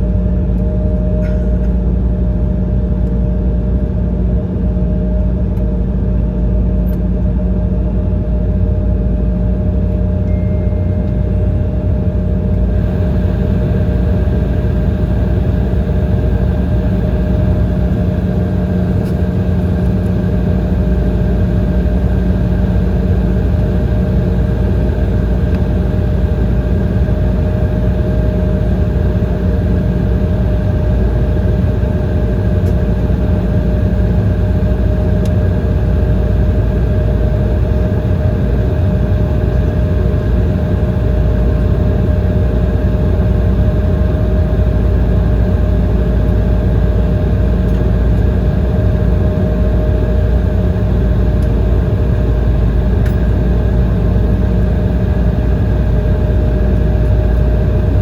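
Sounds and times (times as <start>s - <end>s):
jet engine low rumble: 0.0s - 58.0s
steady engine whine: 0.0s - 58.0s.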